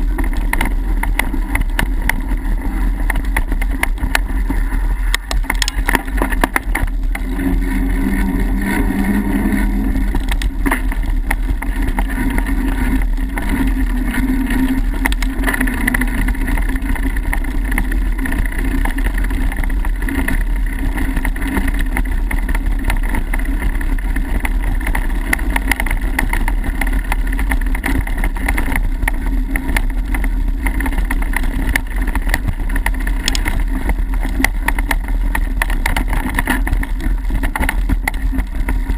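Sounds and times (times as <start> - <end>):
bike tyres crunching over ground: 0.0 - 38.9
wind on microphone: 0.0 - 38.9.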